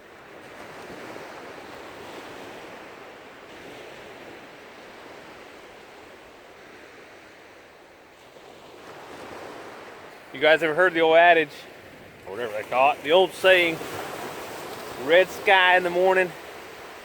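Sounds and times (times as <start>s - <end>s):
small waves on sandy beach: 0.0s - 17.0s.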